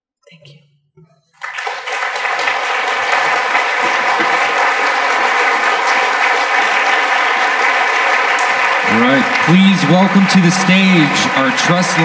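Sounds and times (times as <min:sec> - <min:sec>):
audience applauding: 0:01.4 - 0:12.0.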